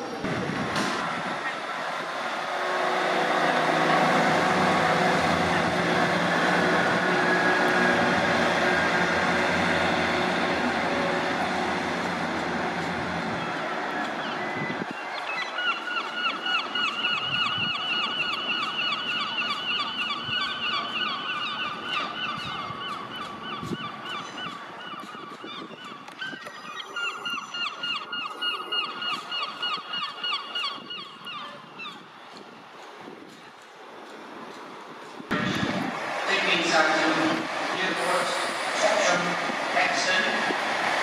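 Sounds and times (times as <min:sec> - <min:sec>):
low train rumble: 0:00.0 - 0:41.0.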